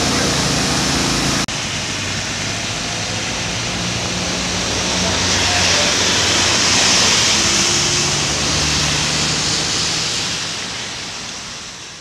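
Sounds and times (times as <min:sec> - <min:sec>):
low engine hum: 0:00.0 - 0:11.9
rain and traffic on wet roads: 0:00.0 - 0:12.0.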